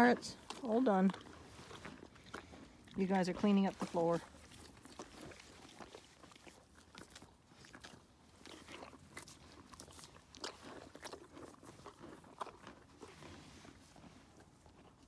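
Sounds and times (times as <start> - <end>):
animals crunching carrot: 0.0 - 15.0.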